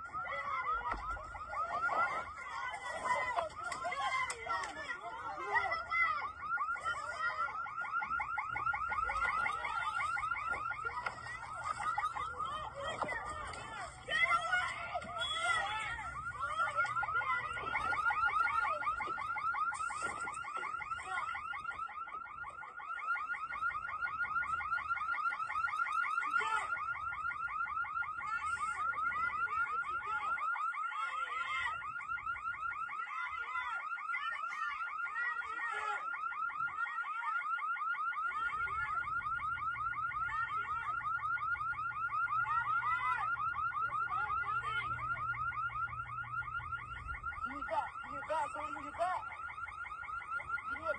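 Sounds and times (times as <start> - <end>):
electronic alarm siren warbling: 0.0 - 50.9.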